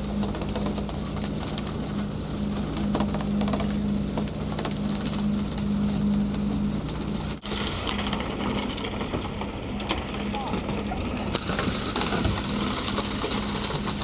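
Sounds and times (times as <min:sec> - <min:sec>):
boat motor humming: 0:00.0 - 0:14.0
water splashing: 0:00.0 - 0:14.0.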